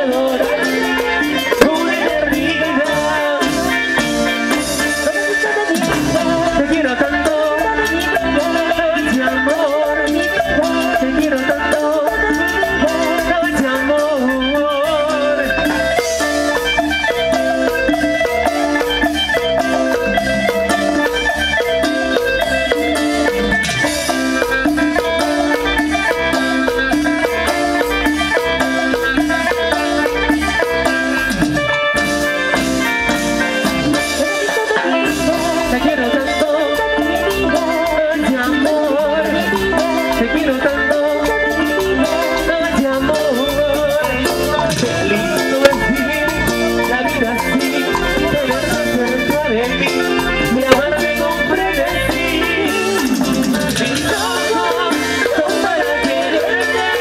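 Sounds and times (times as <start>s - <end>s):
live cumbia band playing: 0.0s - 57.0s.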